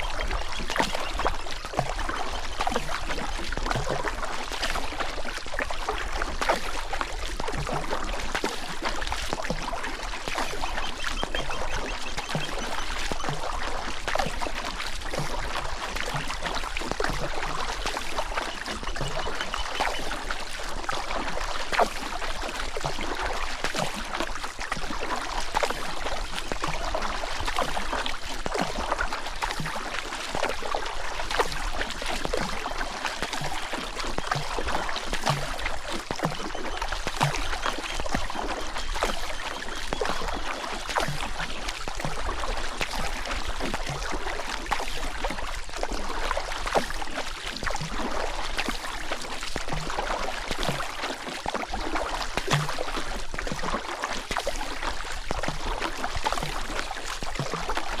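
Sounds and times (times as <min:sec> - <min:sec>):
small water splashes: 0:00.0 - 0:58.0.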